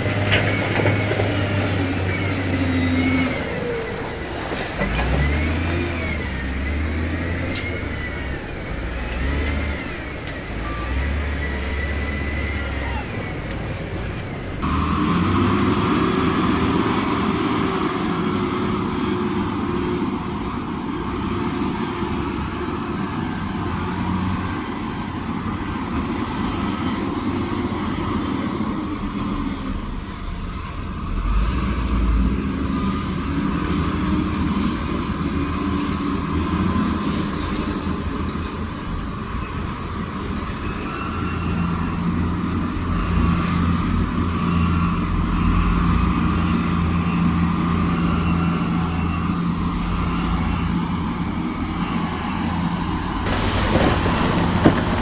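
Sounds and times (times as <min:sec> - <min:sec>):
heavy diesel engines working: 0:00.0 - 0:55.0.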